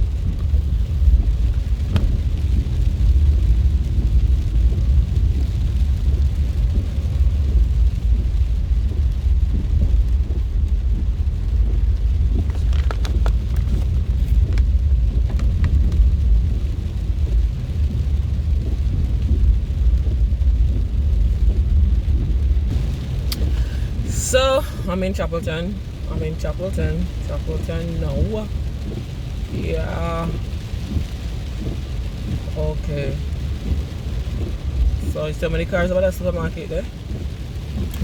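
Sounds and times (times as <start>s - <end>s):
car cabin road and engine rumble: 0.0s - 38.0s
heavy rain: 0.0s - 38.0s.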